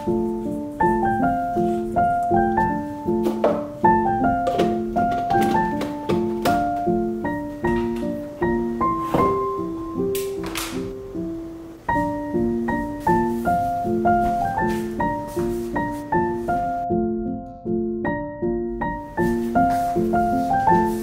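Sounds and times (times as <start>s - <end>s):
solo piano music: 0.0s - 21.0s.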